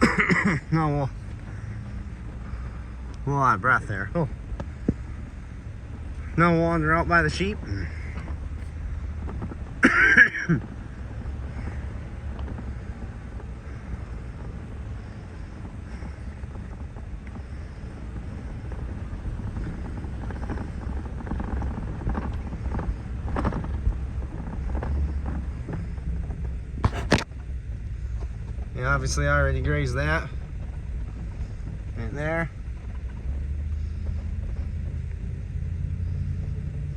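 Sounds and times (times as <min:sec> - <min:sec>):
wind rumble on microphone: 0:00.0 - 0:36.9.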